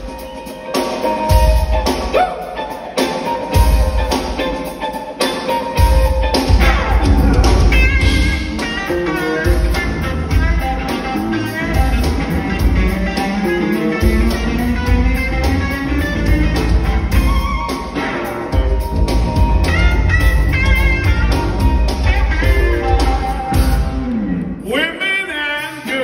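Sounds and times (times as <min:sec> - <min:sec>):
bass guitar: 0:00.0 - 0:24.9
electric guitar lead: 0:00.0 - 0:25.8
drums: 0:00.0 - 0:26.0.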